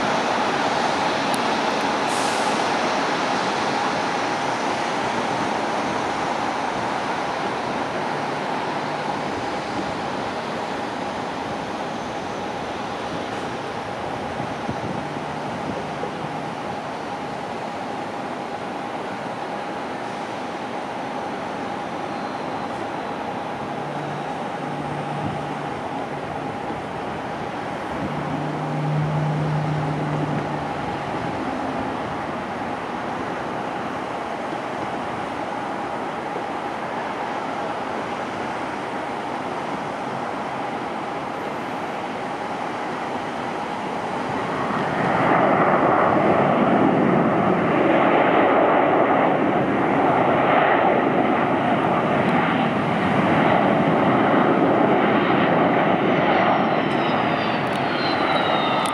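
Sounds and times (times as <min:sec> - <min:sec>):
distant jet engines: 0:00.0 - 0:58.9.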